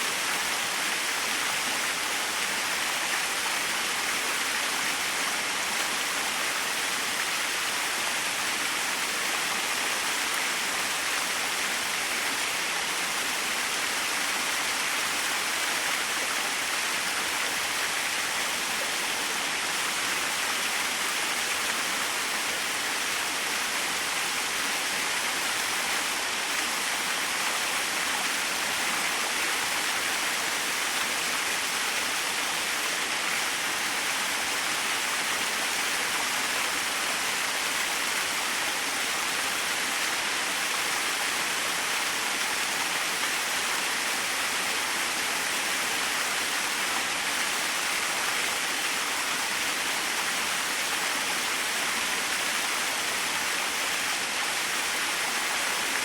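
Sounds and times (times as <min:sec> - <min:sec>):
small waterfall running: 0:00.0 - 0:56.0.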